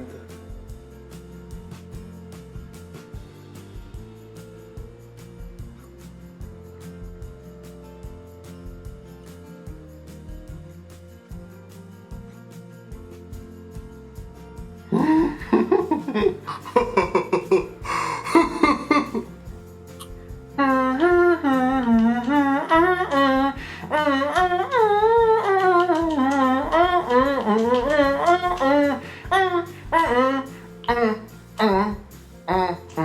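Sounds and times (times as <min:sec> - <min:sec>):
background music: 0:00.0 - 0:33.0.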